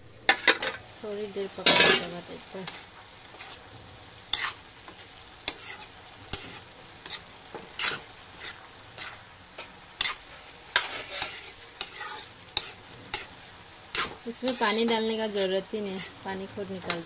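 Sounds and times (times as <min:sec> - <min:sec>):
vegetables sizzling in oil: 0:00.0 - 0:17.0
metal spoon scraping a pan: 0:01.6 - 0:03.6, 0:04.3 - 0:17.0.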